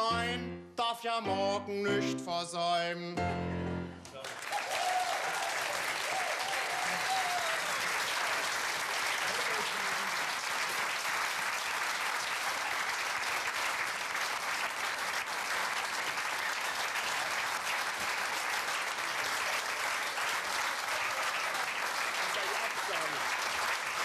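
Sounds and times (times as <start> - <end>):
audience applauding: 4.0 - 24.0.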